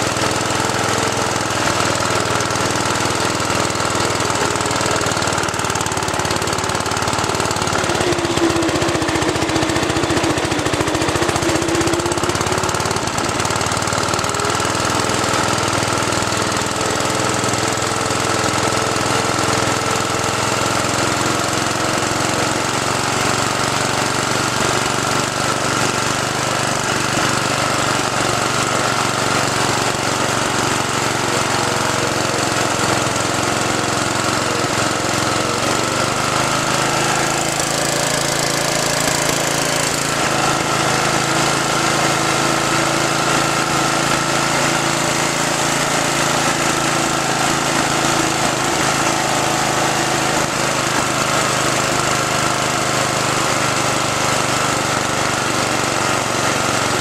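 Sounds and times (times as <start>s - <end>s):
riding lawnmower engine running: 0.0s - 57.0s.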